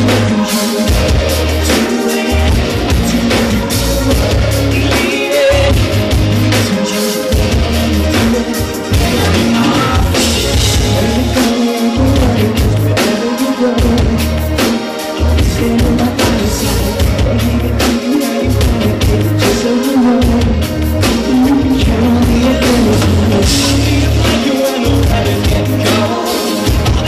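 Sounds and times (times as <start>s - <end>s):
live pop-rock band: 0.0s - 27.0s
male lead vocal: 0.0s - 27.0s.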